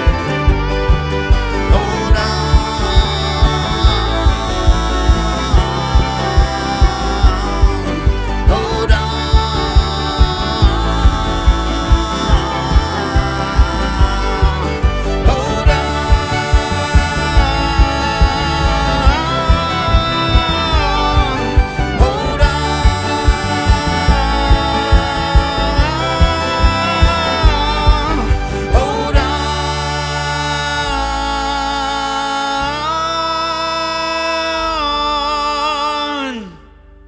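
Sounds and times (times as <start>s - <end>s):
stomping beat: 0.0s - 30.2s
bluegrass band playing: 0.0s - 33.7s
person singing: 0.0s - 37.0s.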